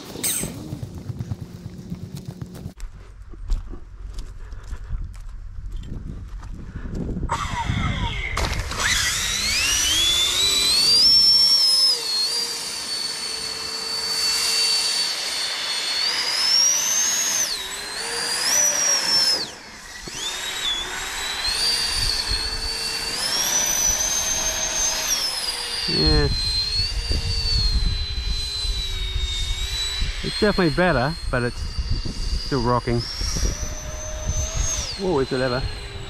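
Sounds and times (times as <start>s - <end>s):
electric motor and propeller whine: 0.0s - 36.0s.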